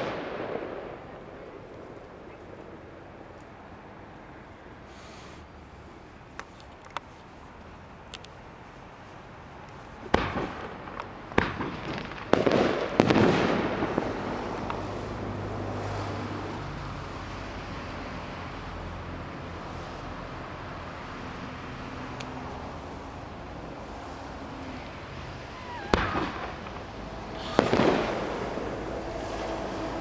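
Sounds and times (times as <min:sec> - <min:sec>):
fireworks bangs: 0:00.0 - 0:05.4, 0:09.0 - 0:30.0
fireworks crackling: 0:00.0 - 0:30.0.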